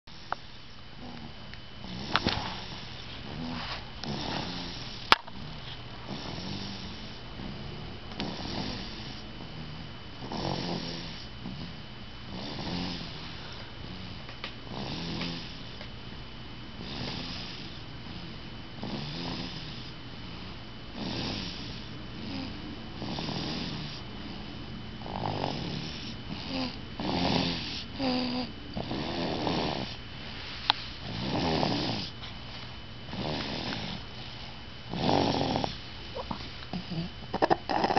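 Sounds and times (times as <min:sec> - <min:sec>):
snoring: 0:00.1 - 0:15.8, 0:16.8 - 0:20.0, 0:20.9 - 0:24.4, 0:25.0 - 0:30.0, 0:31.0 - 0:32.1, 0:33.1 - 0:34.0, 0:34.9 - 0:37.9.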